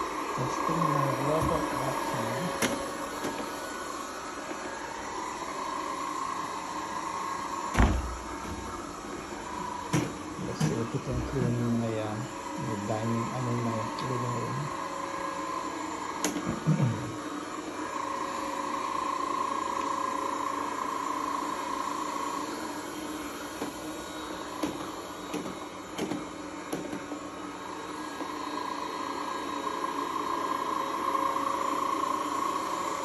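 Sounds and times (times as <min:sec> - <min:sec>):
robot vacuum whirring: 0:00.0 - 0:33.0.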